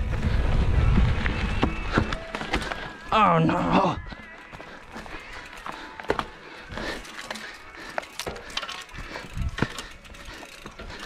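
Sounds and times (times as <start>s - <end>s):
mountain bike clattering over rocks: 1.4s - 11.0s.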